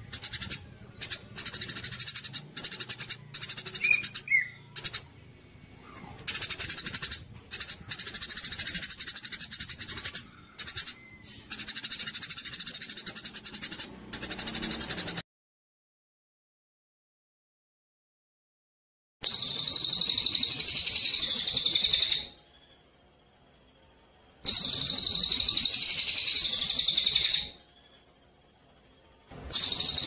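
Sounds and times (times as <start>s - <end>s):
songbird buzzy trills: 0.0s - 15.2s, 19.2s - 30.0s.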